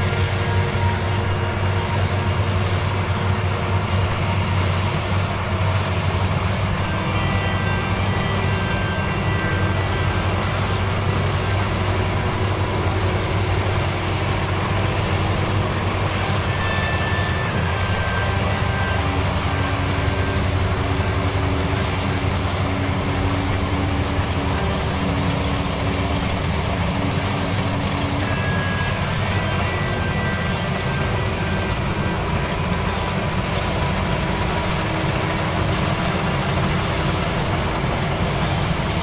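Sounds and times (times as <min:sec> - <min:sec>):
combine harvester engine drone: 0:00.0 - 0:39.0
faint steady whines: 0:00.0 - 0:39.0.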